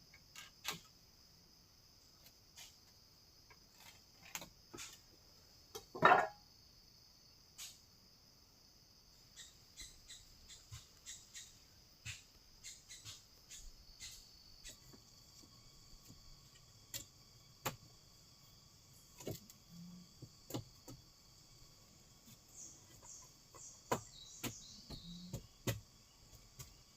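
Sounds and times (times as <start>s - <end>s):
insects buzzing high-pitched: 0.0s - 26.9s
lower steady insect note: 0.0s - 26.9s.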